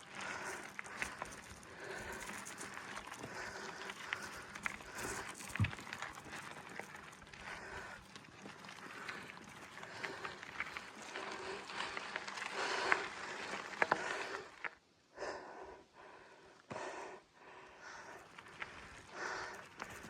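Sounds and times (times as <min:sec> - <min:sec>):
bike clicks: 0:00.0 - 0:14.8, 0:18.0 - 0:20.0
person breathing hard: 0:00.0 - 0:20.0.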